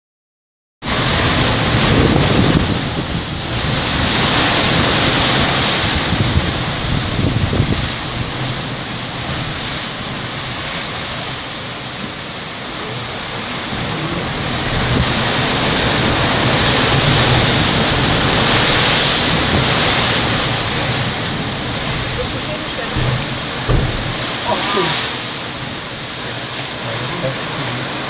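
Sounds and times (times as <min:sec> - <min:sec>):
surf churning against rock: 0:00.8 - 0:28.0.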